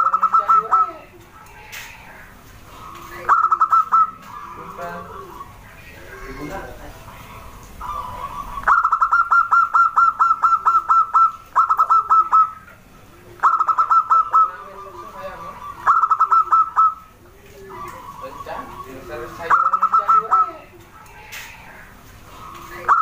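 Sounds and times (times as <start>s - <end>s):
dove calling staccato coos: 0.0s - 23.0s.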